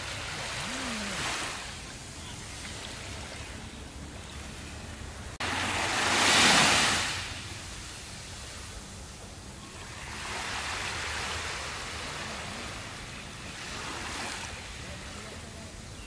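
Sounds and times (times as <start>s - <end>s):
small waves washing up beach: 0.0s - 16.0s.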